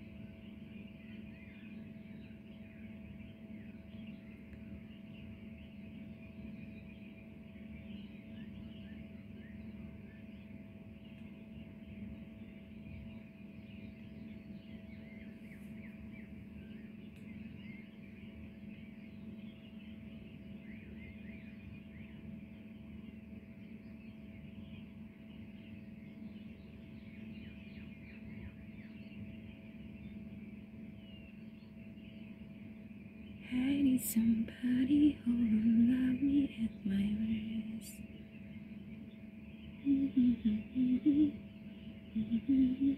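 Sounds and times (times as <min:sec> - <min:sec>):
small birds chirping: 0:00.0 - 0:42.9
steady low hum: 0:00.0 - 0:42.9.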